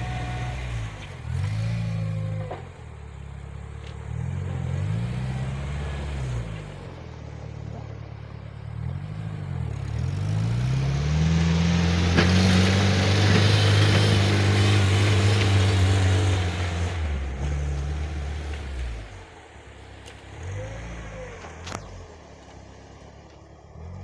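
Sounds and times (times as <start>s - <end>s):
mini tractor engine revving: 0.0s - 24.0s.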